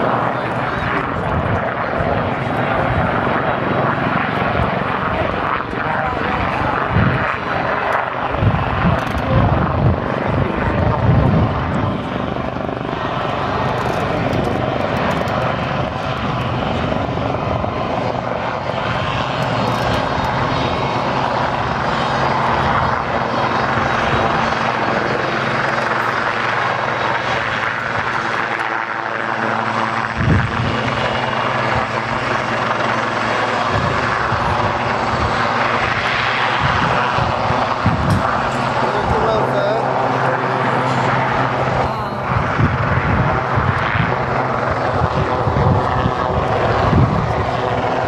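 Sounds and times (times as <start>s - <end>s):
helicopters flying low: 0.0s - 48.0s.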